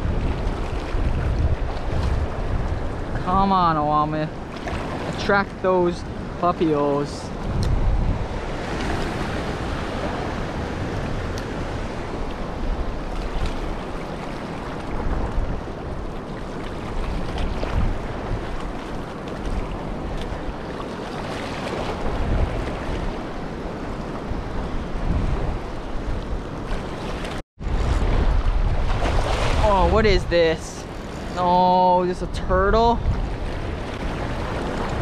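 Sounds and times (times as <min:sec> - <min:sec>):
surf washing over reef: 0:00.0 - 0:35.0
wind rumbling on microphone: 0:00.0 - 0:35.0.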